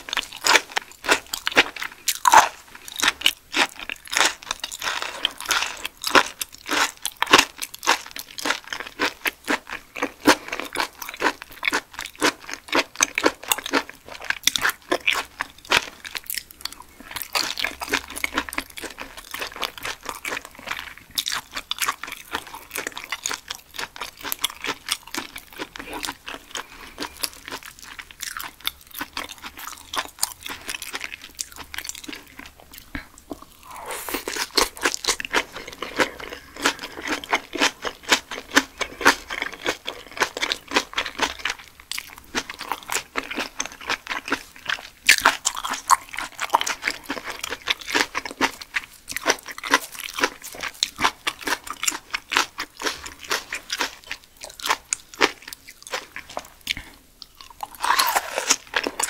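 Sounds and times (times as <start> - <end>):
wet crunchy chewing: 0.0 - 59.0.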